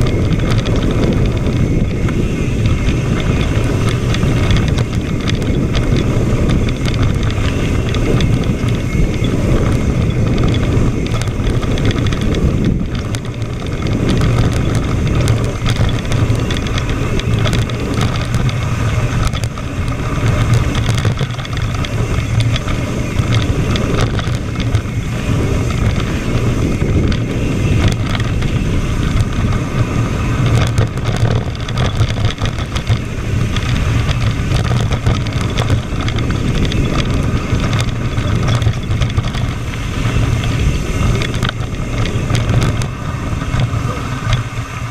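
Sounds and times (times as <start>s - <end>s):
bike rattling on rough trail: 0.0s - 44.9s
wind rushing over microphone: 0.0s - 44.9s.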